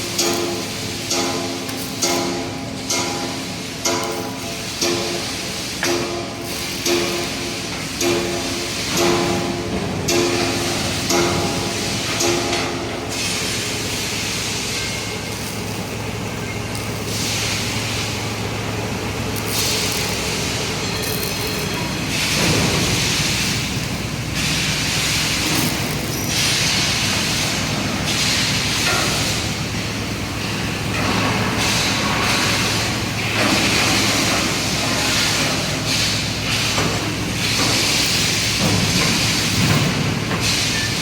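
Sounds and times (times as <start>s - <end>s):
steady machine hum: 0.0s - 41.0s.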